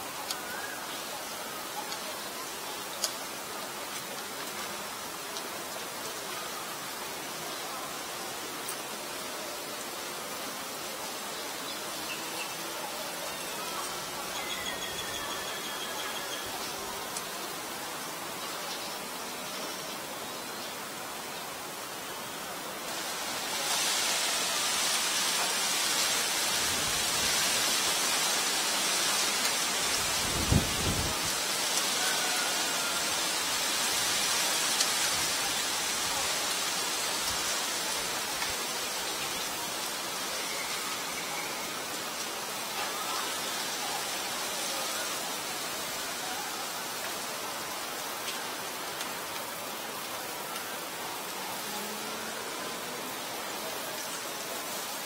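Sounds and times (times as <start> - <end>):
steady rushing hiss: 0.0 - 55.0.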